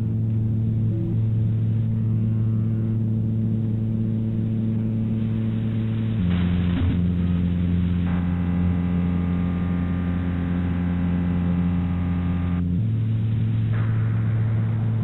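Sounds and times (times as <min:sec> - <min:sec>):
ambient drone music: 0:00.0 - 0:15.0.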